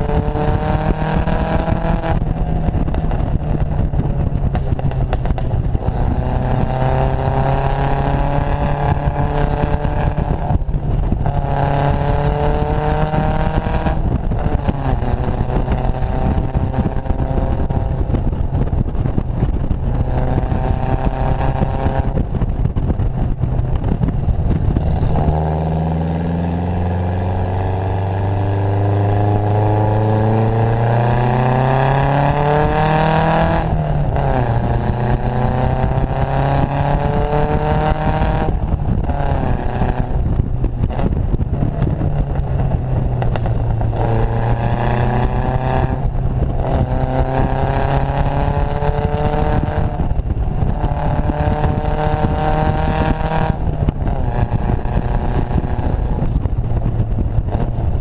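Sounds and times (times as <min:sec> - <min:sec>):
car engine revving: 0:00.0 - 0:58.0
wind rushing: 0:00.0 - 0:58.0.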